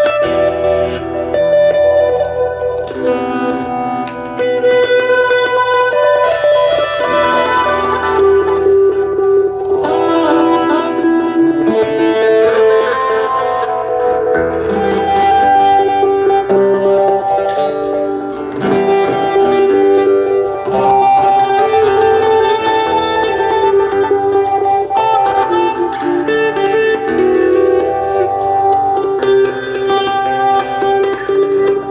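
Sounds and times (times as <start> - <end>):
plucked guitar melody: 0.0 - 31.9.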